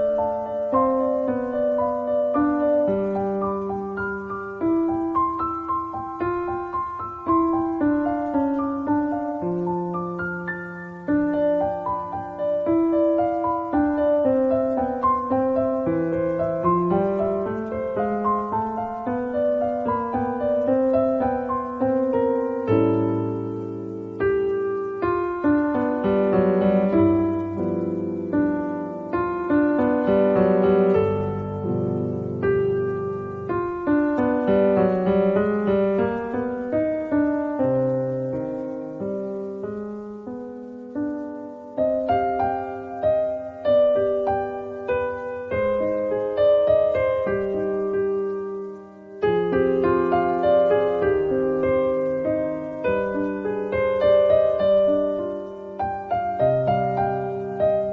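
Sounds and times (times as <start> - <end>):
solo piano melody: 0.0 - 57.9.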